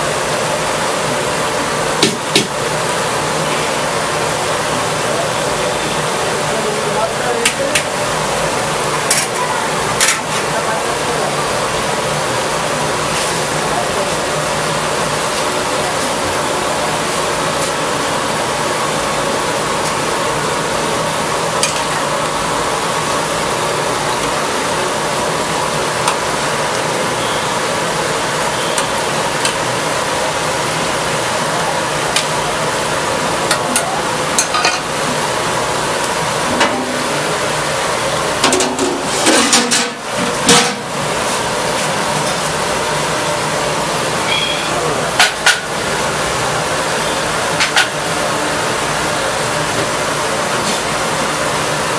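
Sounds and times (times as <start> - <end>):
chicken deep-frying sizzle: 0.0 - 51.9.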